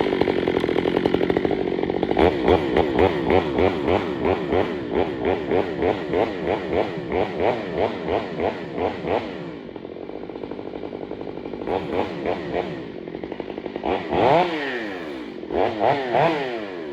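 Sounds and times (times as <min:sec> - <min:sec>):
chainsaw revving and idling: 0:00.0 - 0:16.9.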